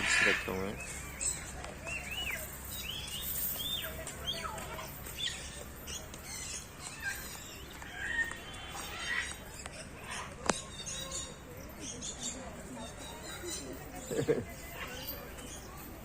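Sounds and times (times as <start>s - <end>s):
caged birds chirping and squawking: 0.0s - 16.0s.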